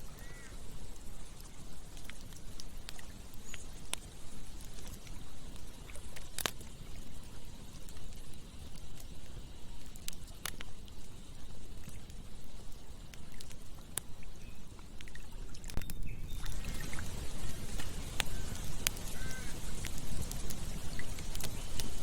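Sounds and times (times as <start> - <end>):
campfire crackling and popping: 0.0 - 22.0
low rushing background noise: 0.0 - 22.0.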